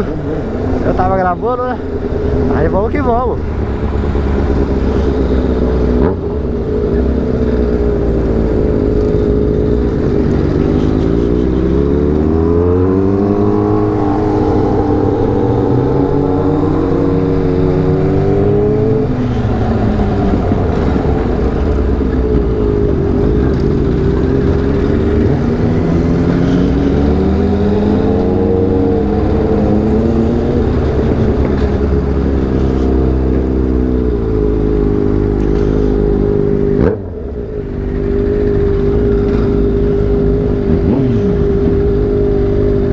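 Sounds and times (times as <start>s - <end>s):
motorcycle engines rumbling: 0.0s - 42.9s.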